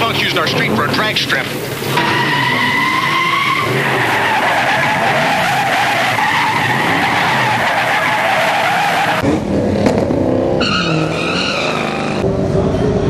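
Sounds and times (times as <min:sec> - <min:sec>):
tyres screeching: 0:00.0 - 0:09.2, 0:10.6 - 0:12.2
car engines racing: 0:00.0 - 0:13.0.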